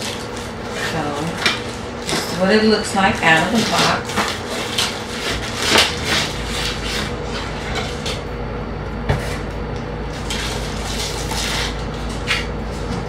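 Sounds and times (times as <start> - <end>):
plastic bag crinkling: 0.0 - 8.1, 10.1 - 12.9.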